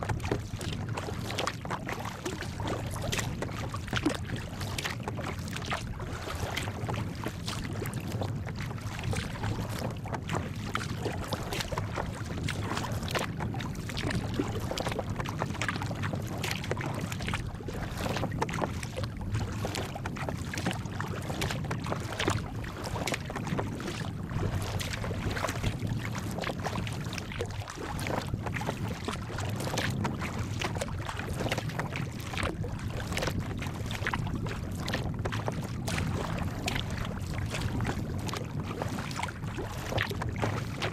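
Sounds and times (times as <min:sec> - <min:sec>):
waves splashing against hull: 0:00.0 - 0:40.9
wind rumble on microphone: 0:00.0 - 0:40.9.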